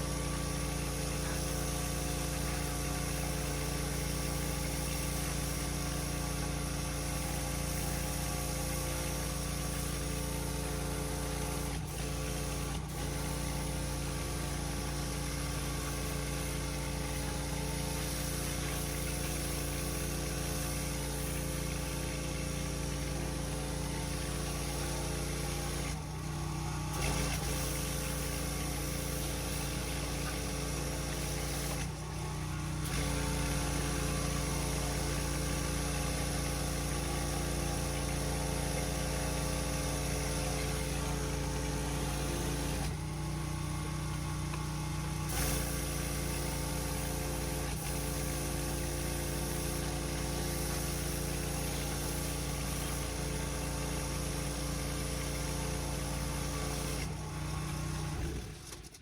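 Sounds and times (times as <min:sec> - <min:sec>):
pressure washer engine running: 0:00.0 - 0:59.0.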